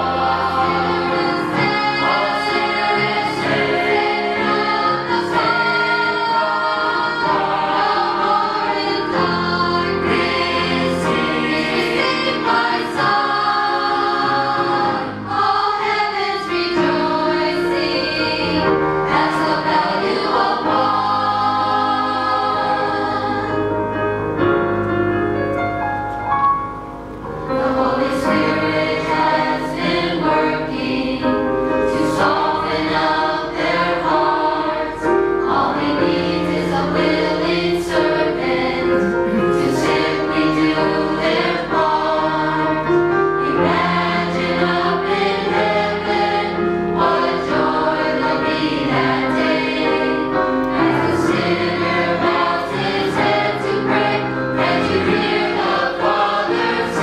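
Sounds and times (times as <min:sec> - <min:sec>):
church choir singing: 0:00.0 - 0:24.4, 0:27.5 - 0:57.0.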